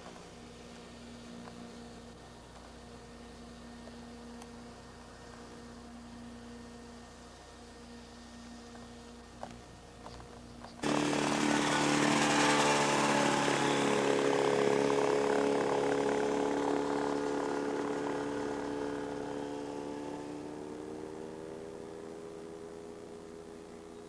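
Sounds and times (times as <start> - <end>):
ultralight airplane engine drone: 0.0 - 24.0.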